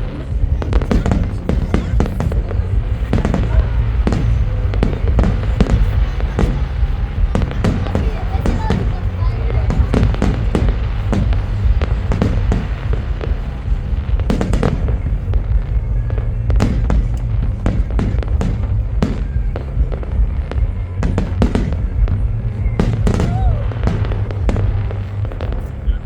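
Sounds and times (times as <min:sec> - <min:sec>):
fireworks bangs and crackles: 0:00.0 - 0:26.0
low rumble: 0:00.0 - 0:26.0.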